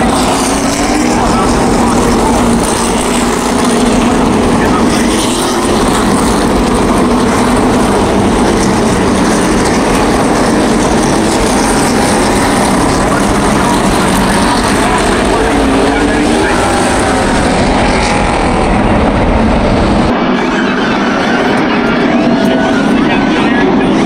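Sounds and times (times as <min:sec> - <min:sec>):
race cars passing in loud drone: 0:00.0 - 0:24.0.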